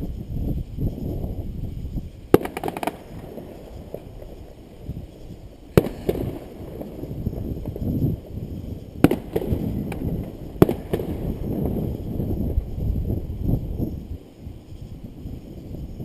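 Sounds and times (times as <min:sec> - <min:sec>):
fireworks crackles: 0:00.0 - 0:16.0
low fireworks booms: 0:00.0 - 0:16.0
sharp fireworks bangs: 0:02.1 - 0:15.1.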